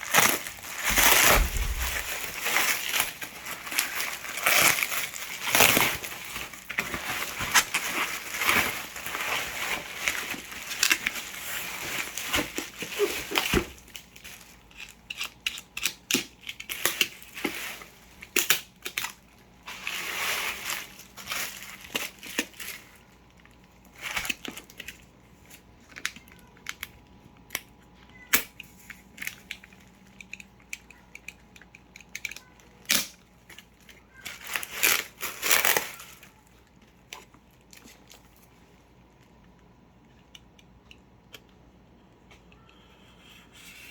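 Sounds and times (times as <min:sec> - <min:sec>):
plastic and cardboard crinkling: 0:00.0 - 0:43.9.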